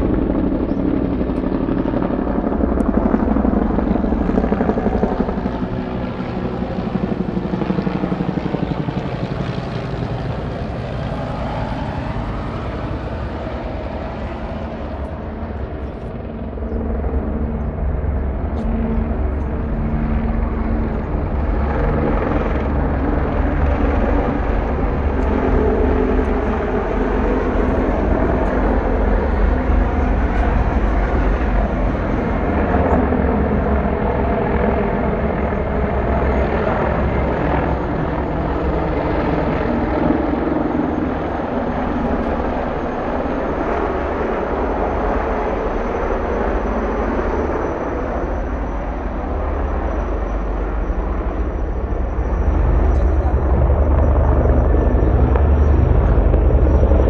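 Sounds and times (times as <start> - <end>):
helicopters flying overhead: 0.0 - 57.0.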